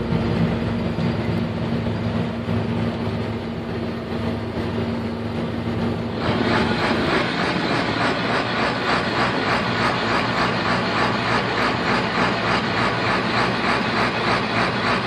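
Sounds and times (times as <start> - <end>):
combine harvester engine drone: 0.0 - 15.0
threshing machinery clatter: 0.0 - 15.0.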